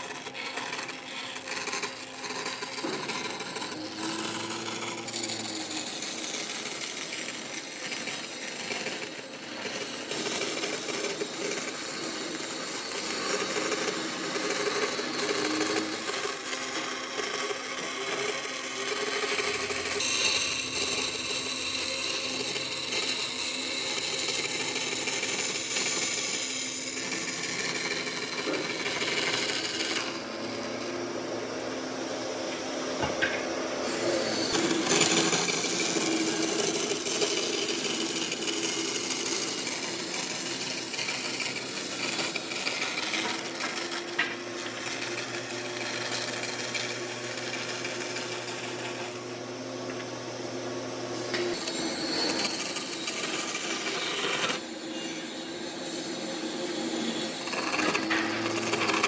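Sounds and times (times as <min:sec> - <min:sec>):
power tool working wood: 0:00.0 - 0:59.0.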